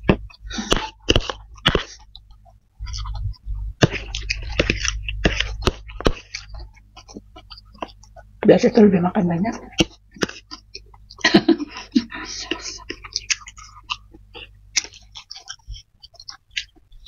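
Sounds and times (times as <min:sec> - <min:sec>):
wet chewing and mouth sounds: 0:00.0 - 0:08.4, 0:09.6 - 0:17.0
low steady hum: 0:00.0 - 0:17.0.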